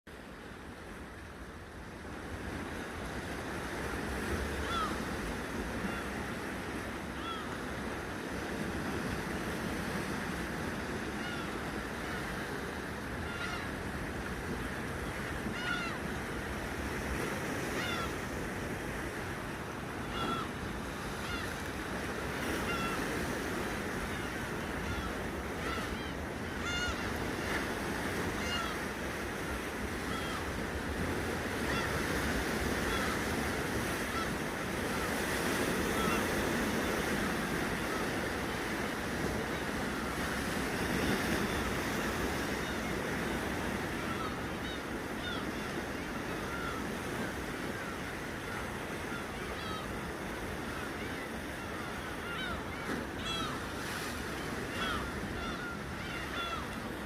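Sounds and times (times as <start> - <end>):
sea waves washing against shore: 0.1 - 57.0.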